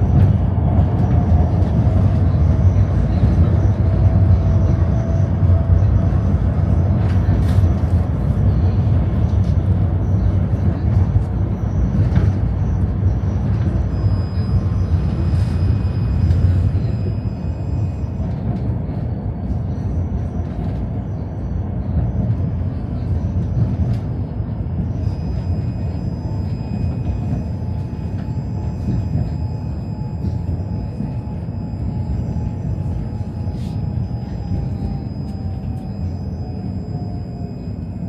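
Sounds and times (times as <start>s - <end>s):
tram rumbling on rails: 0.0s - 38.0s.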